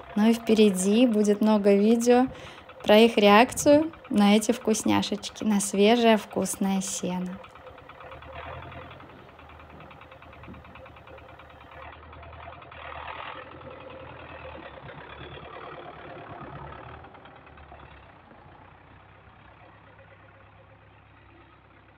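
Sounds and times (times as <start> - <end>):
tractor engine clattering: 0.0 - 21.9.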